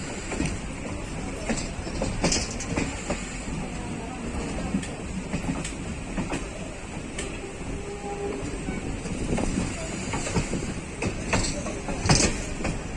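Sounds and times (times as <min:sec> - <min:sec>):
train rumbling on rails: 0:00.0 - 0:12.9
train wheels clicking: 0:00.0 - 0:12.9.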